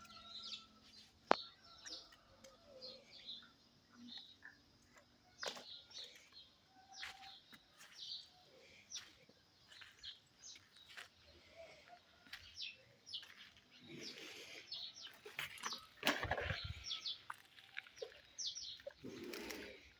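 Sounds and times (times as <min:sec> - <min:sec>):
small bird chirping: 0:00.0 - 0:19.9.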